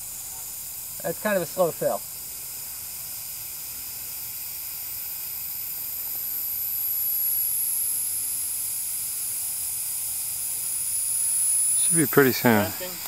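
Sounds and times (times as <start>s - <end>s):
gas venting hiss: 0.0s - 13.0s.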